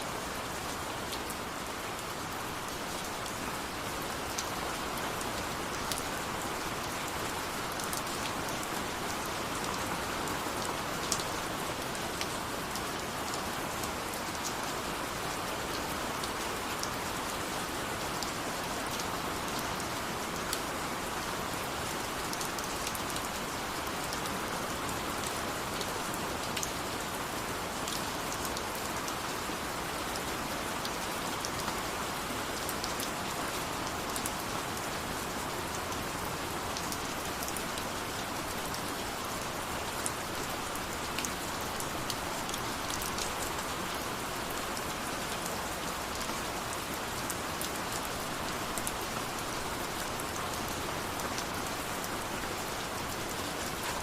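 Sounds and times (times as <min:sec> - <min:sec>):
sharp drips of raindrops: 0:00.1 - 0:54.0.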